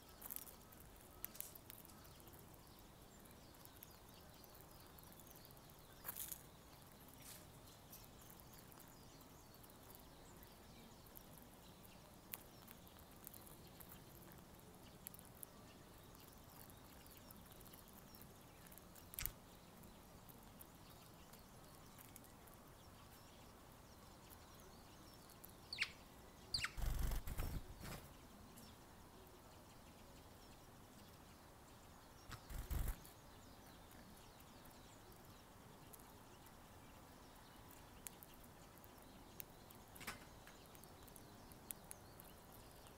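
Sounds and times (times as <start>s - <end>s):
birds pecking at feeder: 0.0s - 25.7s, 26.6s - 30.0s, 31.0s - 42.9s.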